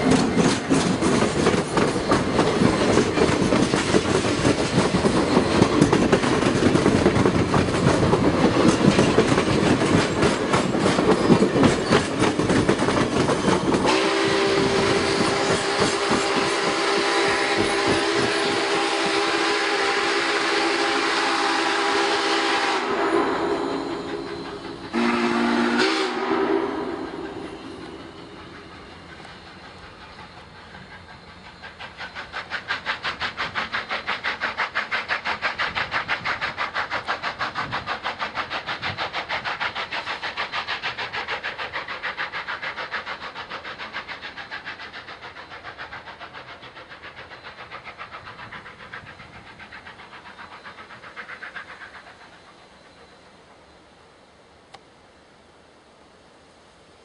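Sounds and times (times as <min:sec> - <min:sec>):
steam locomotive exhaust chuffs: 0:00.0 - 0:55.0.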